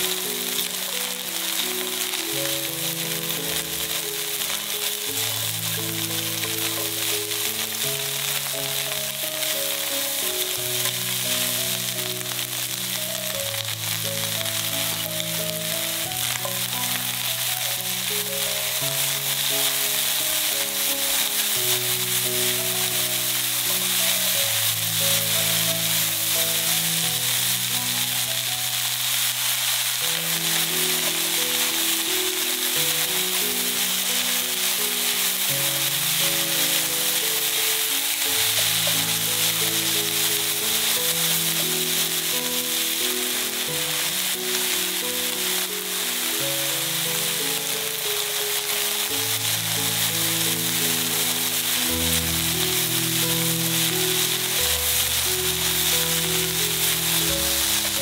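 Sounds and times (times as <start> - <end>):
slow background music: 0.0 - 58.0
vegetables sizzling in oil: 0.0 - 58.0.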